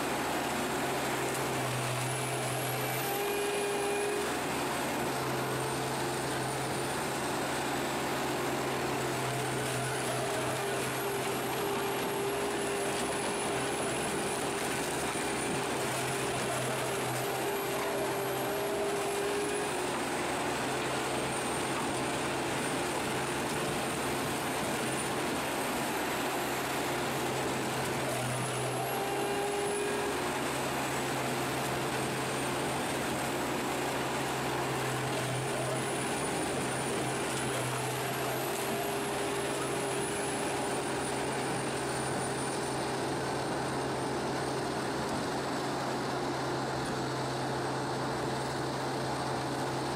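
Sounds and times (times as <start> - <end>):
diesel engine hum: 0.0 - 49.9
high machine whine: 0.0 - 49.9.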